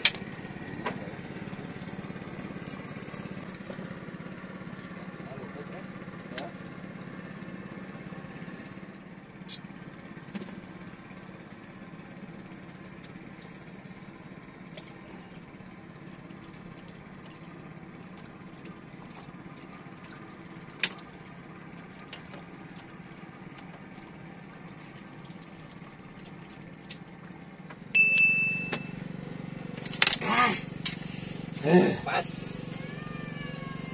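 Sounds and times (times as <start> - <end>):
engine running with low hum: 0.0 - 33.9.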